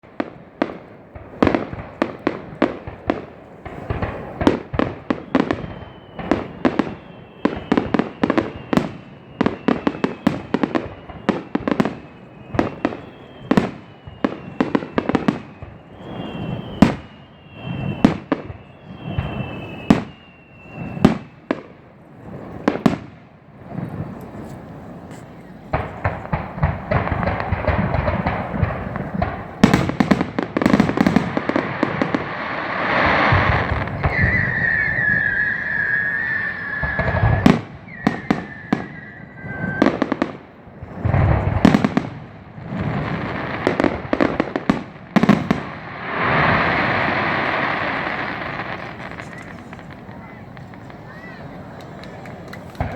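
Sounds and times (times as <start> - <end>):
firework bangs with echoing rumble: 0.0 - 52.9
firework whistles: 0.2 - 52.9.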